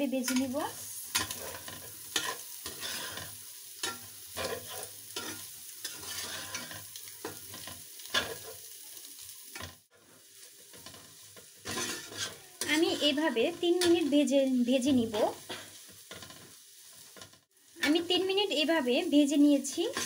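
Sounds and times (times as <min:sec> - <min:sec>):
stir-fry sizzling: 0:00.0 - 0:20.0
spatula scraping in a wok: 0:00.1 - 0:20.0.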